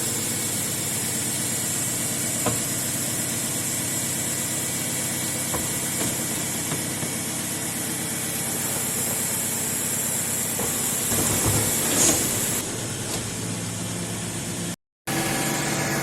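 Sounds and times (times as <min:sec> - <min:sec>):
garbage truck engine: 0:00.0 - 0:16.0.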